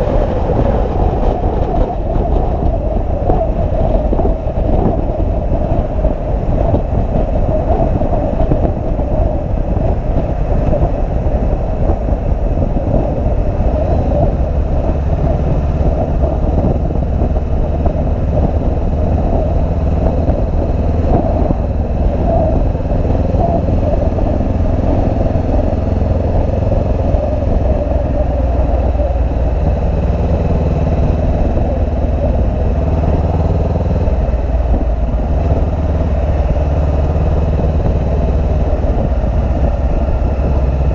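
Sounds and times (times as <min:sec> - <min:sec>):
motorcycle engine: 0:00.0 - 0:40.9
rushing wind noise: 0:00.0 - 0:40.9.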